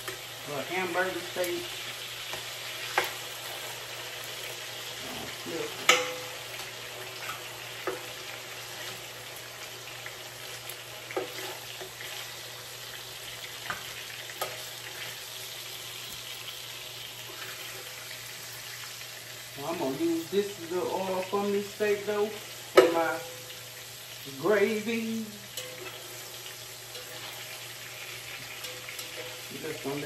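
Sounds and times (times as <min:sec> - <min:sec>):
patties sizzling in a skillet: 0:00.0 - 0:30.0.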